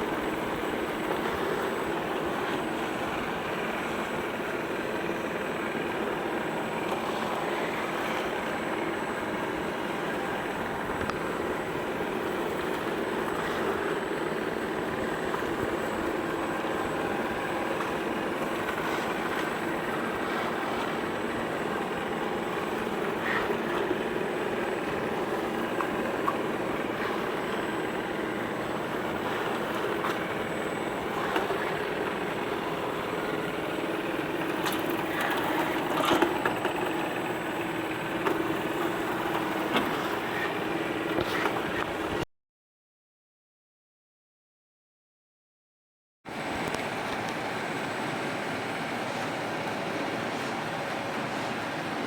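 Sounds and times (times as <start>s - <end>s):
robot vacuum motor and brush hum: 0.0s - 42.2s.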